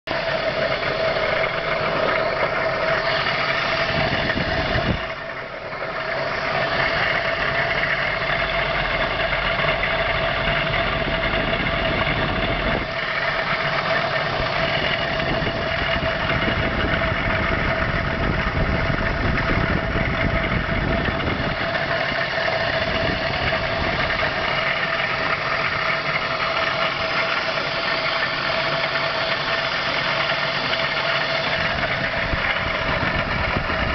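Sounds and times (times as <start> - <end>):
car engine running: 0.0 - 33.9
steady whining tone: 0.1 - 33.9.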